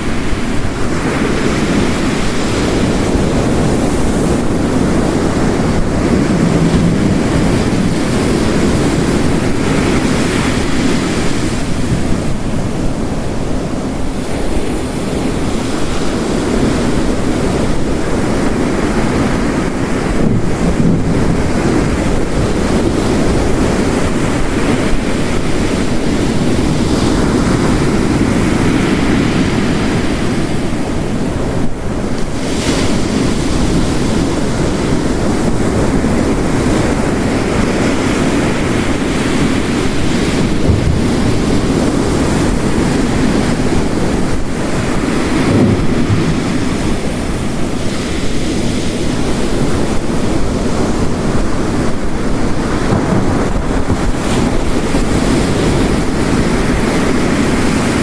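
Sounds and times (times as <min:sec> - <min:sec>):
heavy rain: 0:00.0 - 0:58.0
ocean waves crashing: 0:00.0 - 0:58.0.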